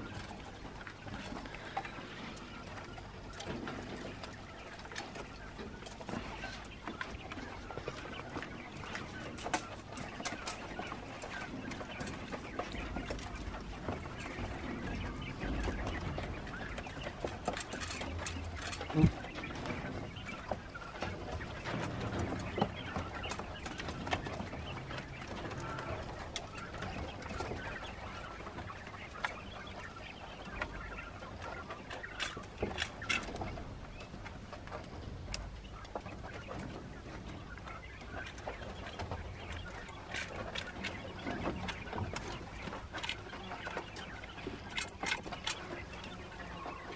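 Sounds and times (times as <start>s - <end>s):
quails clucking and chirping: 0.0s - 46.9s.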